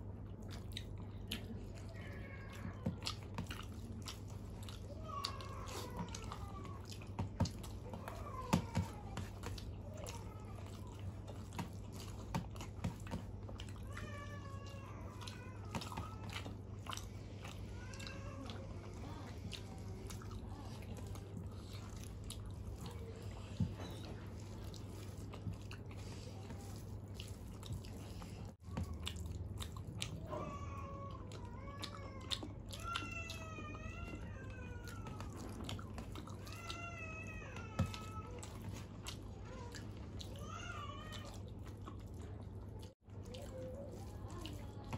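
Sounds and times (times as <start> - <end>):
chewing: 0.0 - 44.9.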